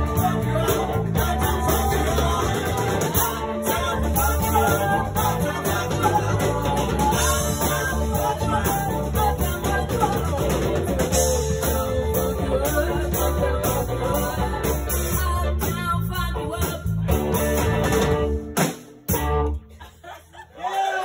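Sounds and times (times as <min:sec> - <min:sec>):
live rock-funk band playing: 0:00.0 - 0:19.8.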